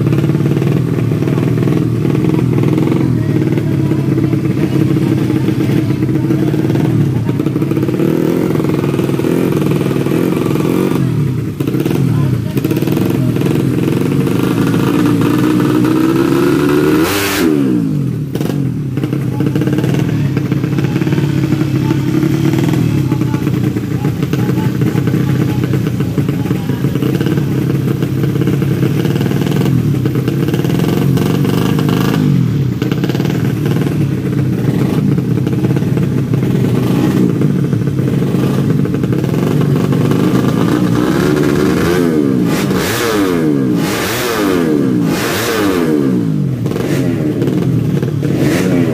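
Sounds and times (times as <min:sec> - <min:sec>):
motorcycles revving: 0:00.0 - 0:48.9.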